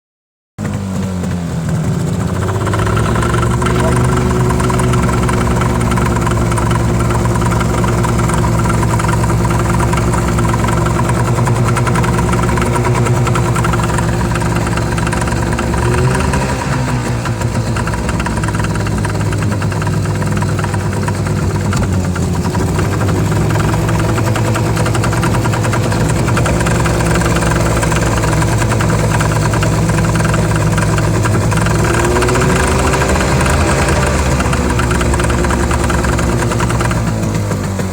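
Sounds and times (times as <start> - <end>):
outboard motor running: 0.6 - 37.9.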